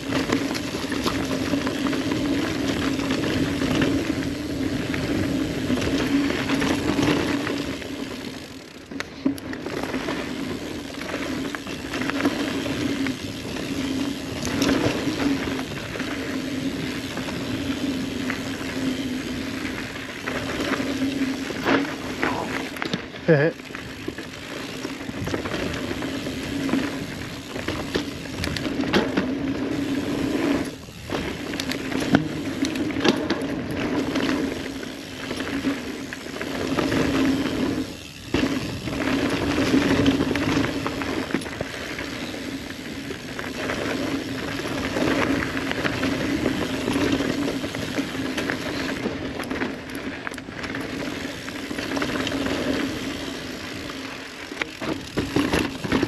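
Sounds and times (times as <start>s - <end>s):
bike chain and frame clattering: 0.0s - 56.0s
bike tyres humming over dirt: 0.0s - 56.0s.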